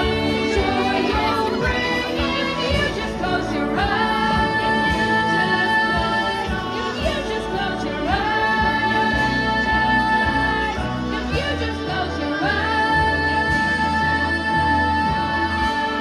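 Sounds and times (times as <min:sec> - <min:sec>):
backing music: 0:00.0 - 0:16.0.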